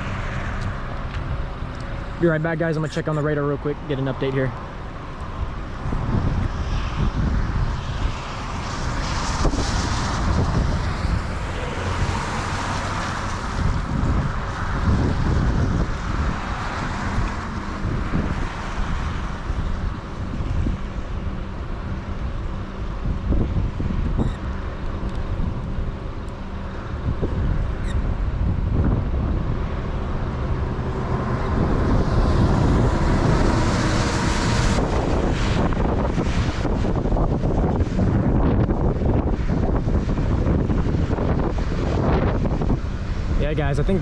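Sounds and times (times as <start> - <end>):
storm wind buffeting microphone: 0.0 - 44.0.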